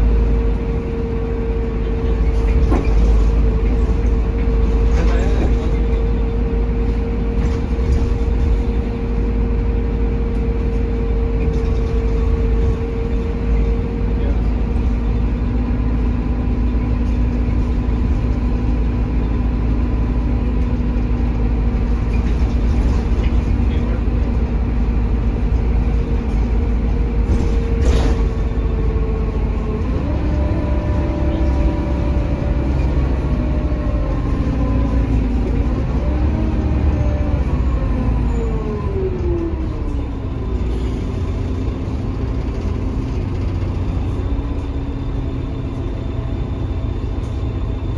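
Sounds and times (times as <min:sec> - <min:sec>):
bus diesel engine rumble: 0:00.0 - 0:47.9.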